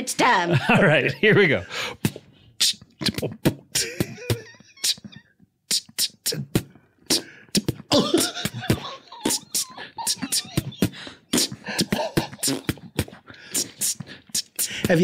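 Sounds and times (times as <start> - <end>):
beatboxing: 1.9 - 15.0
wavering vocal mouth noises: 2.0 - 15.0.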